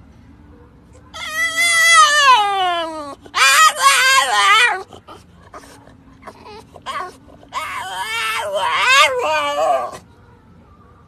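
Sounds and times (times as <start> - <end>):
dog whining and squealing: 1.1 - 10.0.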